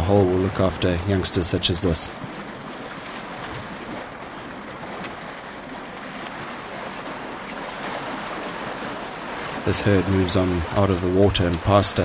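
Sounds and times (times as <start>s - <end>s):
elephants wading through water: 0.0s - 12.0s.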